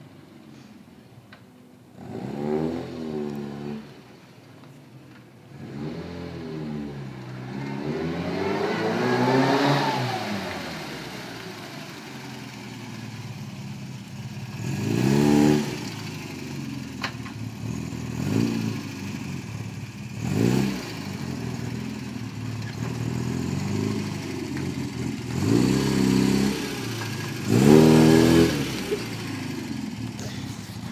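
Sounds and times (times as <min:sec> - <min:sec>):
car engine revving: 0:02.0 - 0:04.1, 0:05.5 - 0:13.7, 0:14.4 - 0:30.9.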